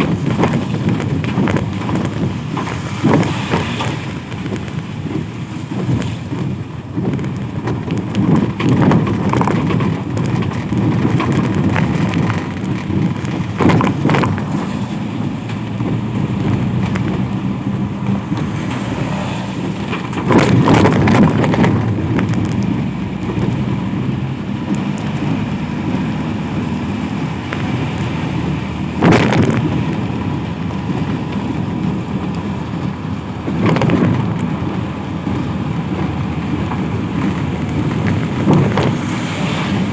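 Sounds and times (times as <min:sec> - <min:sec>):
vehicles passing on wet road: 0:00.0 - 0:39.9.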